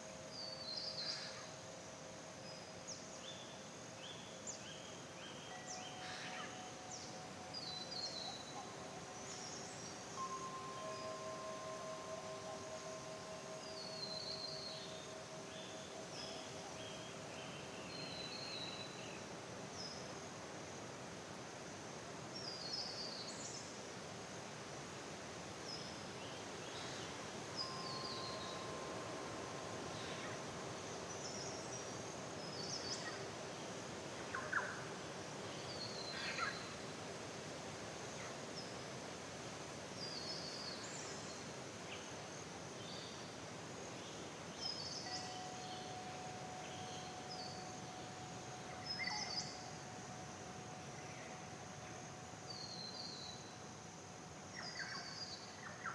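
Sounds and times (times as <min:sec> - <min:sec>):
songbird chirps and trills: 0:00.0 - 0:55.9
steady background hiss: 0:00.0 - 0:55.9.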